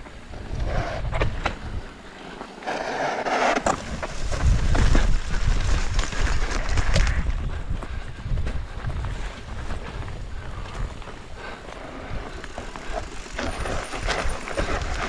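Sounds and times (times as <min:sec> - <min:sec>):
wind rumble on microphone: 0:00.0 - 0:02.0, 0:03.6 - 0:15.0
bike tyre noise: 0:00.0 - 0:15.0.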